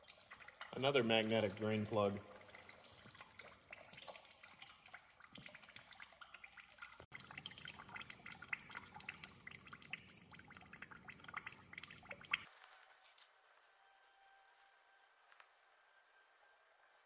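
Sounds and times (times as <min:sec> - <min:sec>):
dripping ticks: 0:00.0 - 0:15.5.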